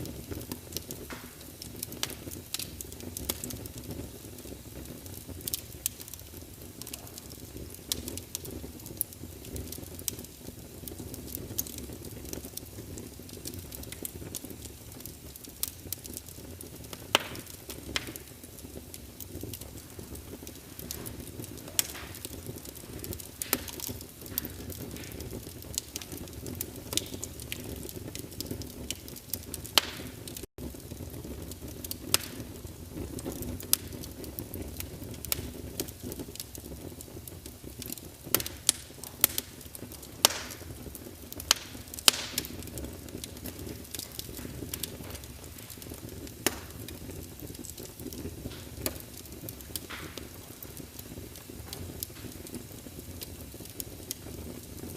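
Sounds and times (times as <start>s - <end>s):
fire rushing: 0.0s - 54.9s
logs crackling and popping: 0.0s - 54.9s.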